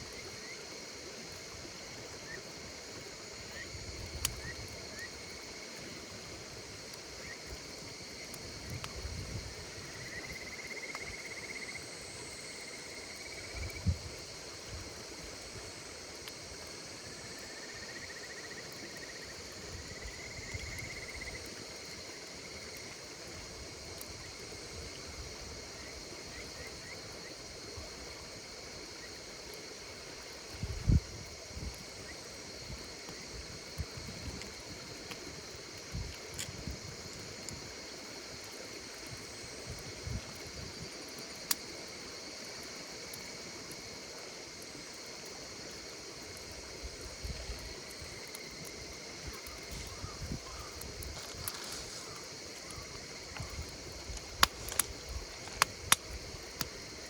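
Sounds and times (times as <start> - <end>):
crickets trilling: 0.0 - 57.0
night insects chirring: 0.0 - 57.0
campfire ticks and thumps: 3.8 - 11.2, 13.0 - 18.0, 18.6 - 25.4, 30.2 - 57.0.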